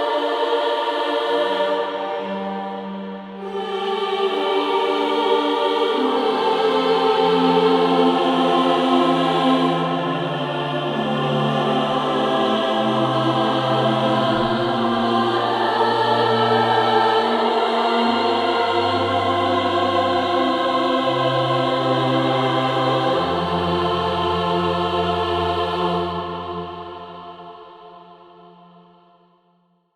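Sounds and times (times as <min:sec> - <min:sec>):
female choir singing: 0:00.0 - 0:29.2.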